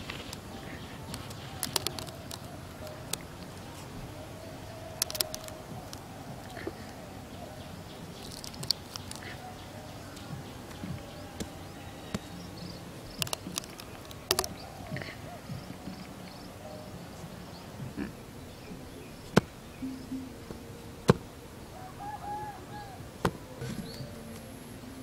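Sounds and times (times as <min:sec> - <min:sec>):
insects chirring: 0:00.0 - 0:22.2.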